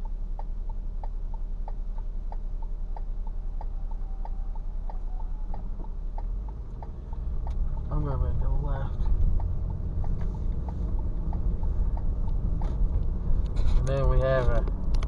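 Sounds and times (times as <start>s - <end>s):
car turn signal clicking: 0.0s - 15.0s
low hum of engine and road: 0.0s - 15.0s.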